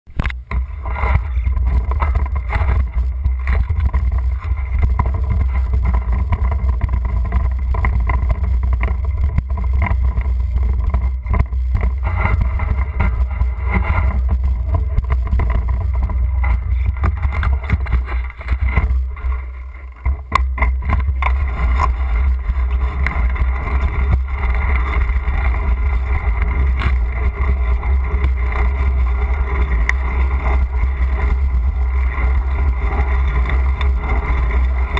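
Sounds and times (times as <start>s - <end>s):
bicycle knocks and rattles: 0.1s - 34.9s
wind rumbling on microphone: 0.1s - 34.9s.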